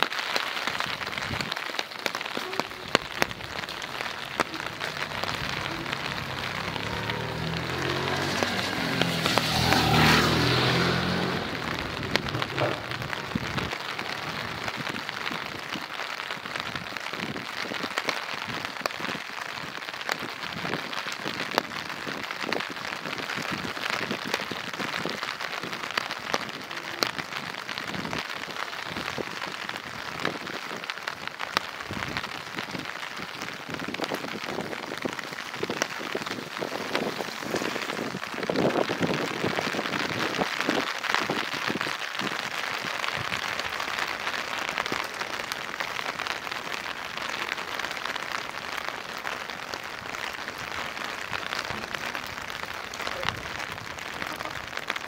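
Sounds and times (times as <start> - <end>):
rain falling: 0.0 - 55.0
sharp raindrop ticks: 0.0 - 55.0.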